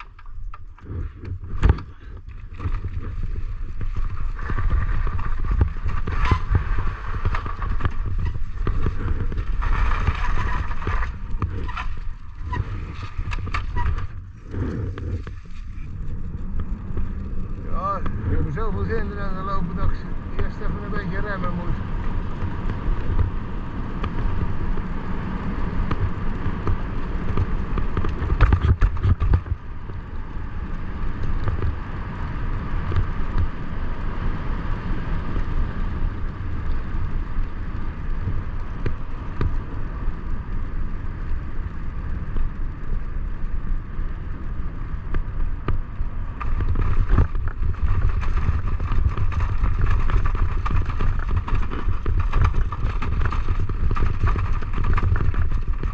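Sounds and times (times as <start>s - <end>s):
wheels rolling on a path: 0.0s - 55.9s
wind rumbling on microphone: 0.0s - 55.9s.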